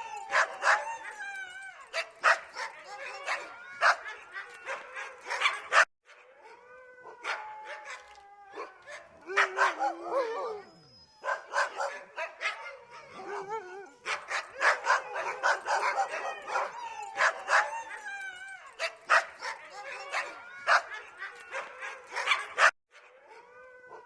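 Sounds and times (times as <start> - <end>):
dog barking and yipping: 0.0 - 6.3, 7.2 - 10.6, 11.2 - 23.1.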